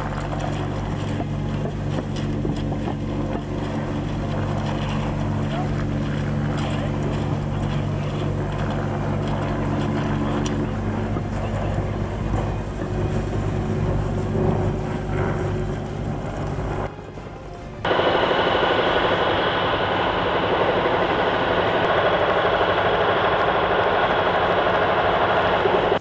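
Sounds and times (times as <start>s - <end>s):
heavy machinery engine hum: 0.0s - 26.0s.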